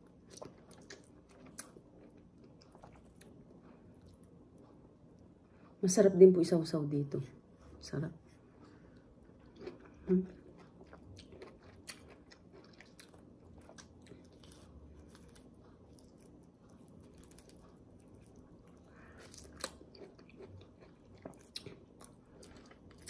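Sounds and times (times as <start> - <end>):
wet chewing of fruit: 0.0 - 5.8, 7.6 - 23.0.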